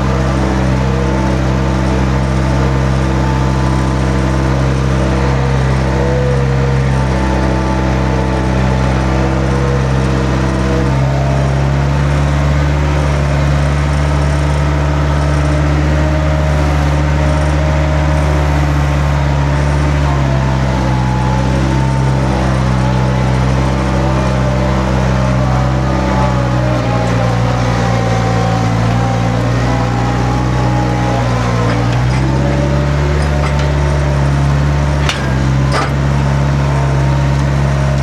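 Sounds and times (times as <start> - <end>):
large engine running: 0.0 - 38.0.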